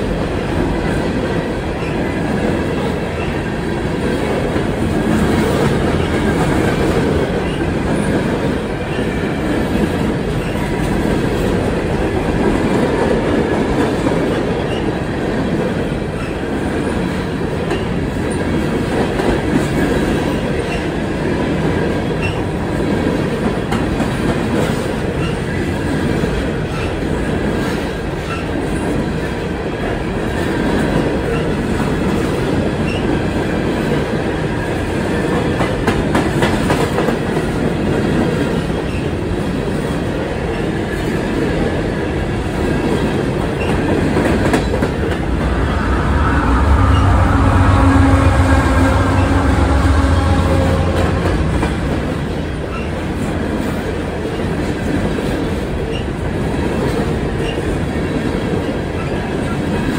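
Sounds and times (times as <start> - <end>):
rail joint clickety-clack: 0.0 - 59.9
train wheels rumbling on rails: 0.0 - 59.9.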